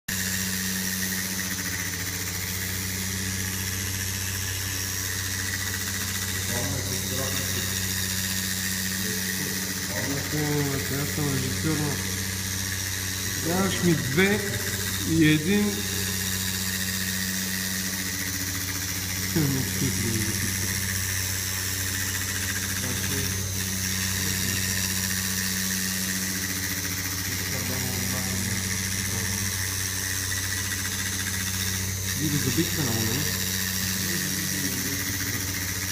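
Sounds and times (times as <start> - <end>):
high whine: 0.1 - 35.9
milling spindle hum: 0.1 - 35.9.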